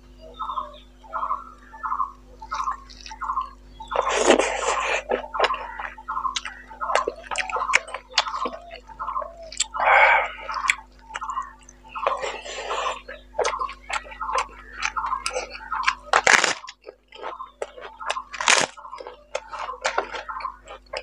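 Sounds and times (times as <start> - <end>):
wet chewing and lip-smacking: 2.1 - 21.0
sharp mouth clicks: 2.5 - 21.0.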